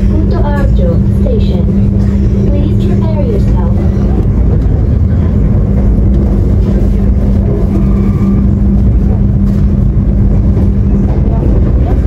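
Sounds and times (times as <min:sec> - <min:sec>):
steady train hum: 0:00.0 - 0:12.0
train wheels rumbling on rails: 0:00.0 - 0:12.0.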